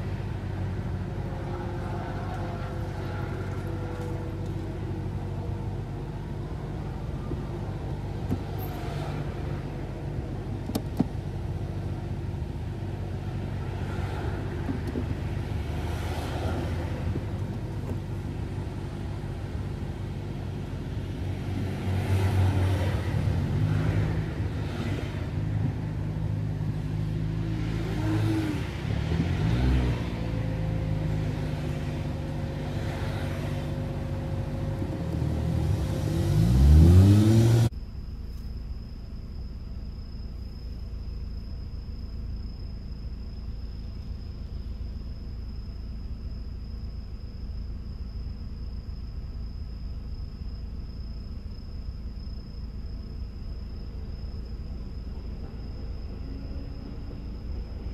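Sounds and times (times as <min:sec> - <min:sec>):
car engine accelerating: 0:00.0 - 0:57.9
traffic noise: 0:00.0 - 0:57.9.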